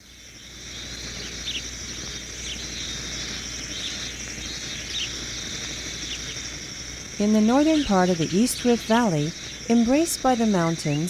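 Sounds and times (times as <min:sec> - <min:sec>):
forest insects droning: 0:00.0 - 0:11.0
short insect chirp: 0:00.0 - 0:11.0.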